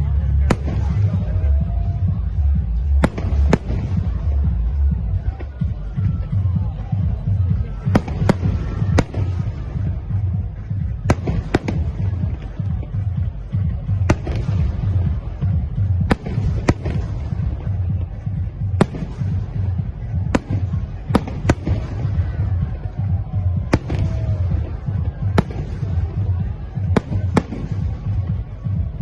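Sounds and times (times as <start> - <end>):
fireworks cracking: 2.9 - 5.6, 7.2 - 29.0.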